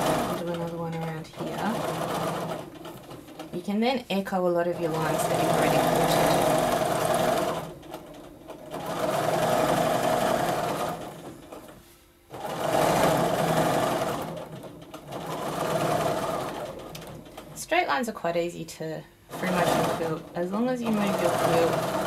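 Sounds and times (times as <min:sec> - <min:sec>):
sewing machine stitching: 0:00.0 - 0:03.8, 0:04.6 - 0:17.8, 0:19.3 - 0:22.0.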